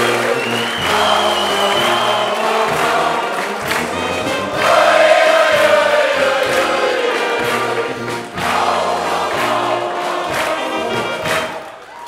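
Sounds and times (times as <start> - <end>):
held bass notes: 0.0 - 11.6
choir-like voices: 0.0 - 12.0.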